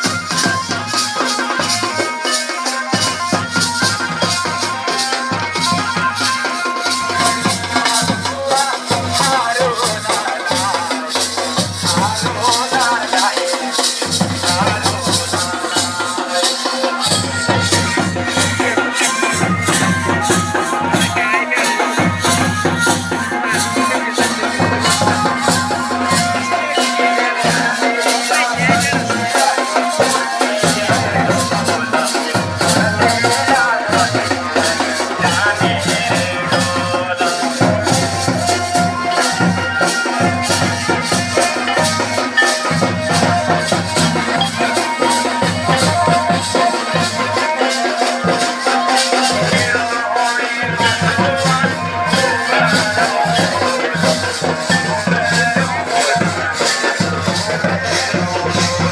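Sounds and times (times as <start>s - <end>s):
folk music with percussion: 0.0s - 58.9s.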